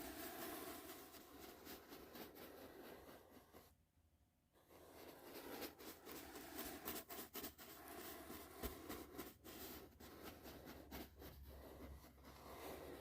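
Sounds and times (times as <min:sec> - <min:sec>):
brush strokes rustling: 0:00.0 - 0:03.8, 0:04.6 - 0:13.0.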